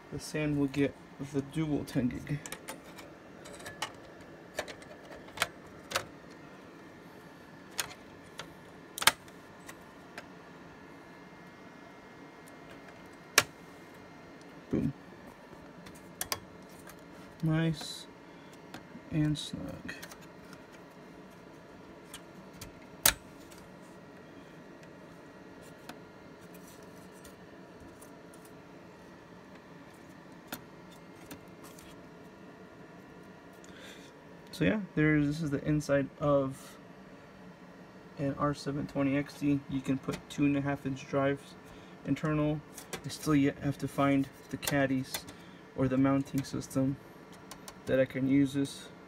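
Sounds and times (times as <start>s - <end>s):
faint machine hum: 0.0s - 49.0s.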